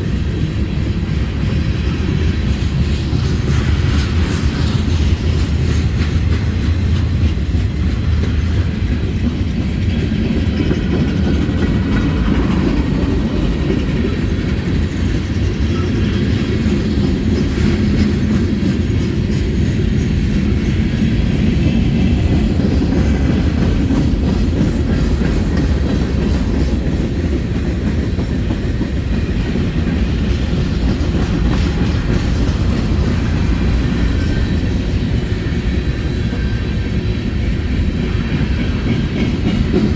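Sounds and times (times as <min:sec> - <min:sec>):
wheels clacking over rail joints: 0:00.0 - 0:37.0
freight train rumbling past: 0:00.0 - 0:39.9.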